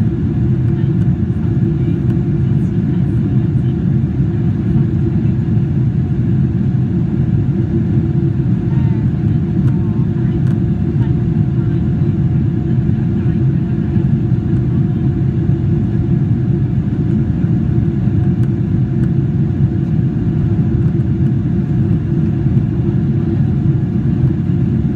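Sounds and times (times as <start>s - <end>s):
airliner cabin engine roar: 0.0s - 24.9s
faint steady hum: 0.0s - 24.9s.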